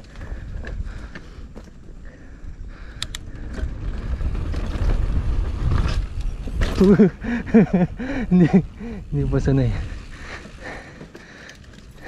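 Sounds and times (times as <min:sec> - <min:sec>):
bike clicks: 0:00.0 - 0:08.9, 0:09.9 - 0:12.0
bike tyre rumble: 0:00.0 - 0:12.0.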